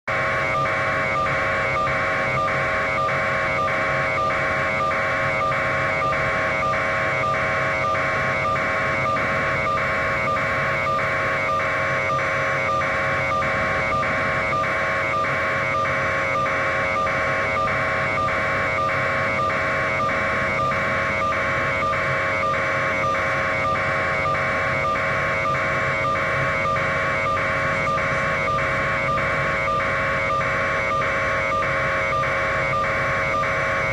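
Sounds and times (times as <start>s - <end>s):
constant low hum: 0.0s - 33.9s.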